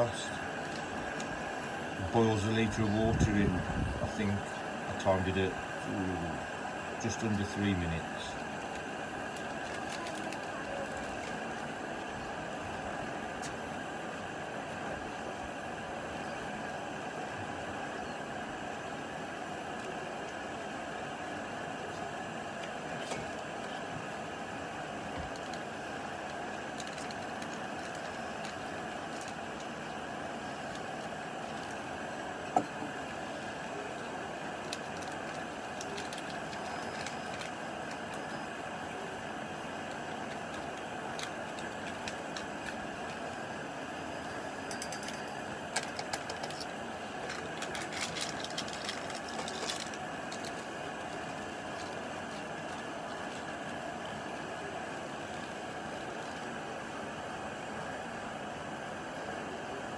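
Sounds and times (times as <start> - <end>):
gas burner hissing: 0.0 - 59.9.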